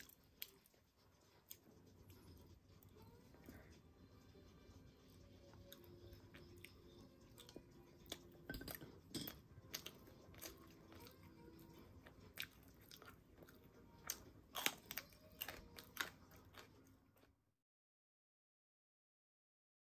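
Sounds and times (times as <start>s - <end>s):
person chewing food: 0.0s - 17.4s.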